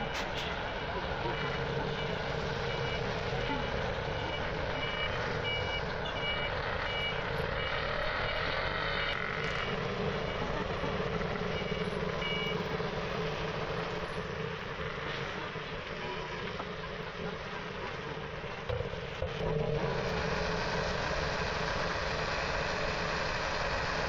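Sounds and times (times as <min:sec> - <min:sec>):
street and vehicle noise: 0:00.0 - 0:24.0.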